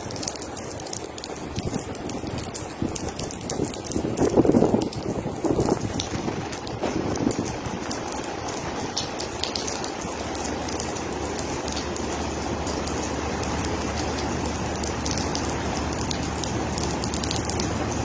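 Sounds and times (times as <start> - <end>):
heavy rain pouring: 0.0 - 18.0
raindrops ticking on hard surfaces: 0.0 - 18.0.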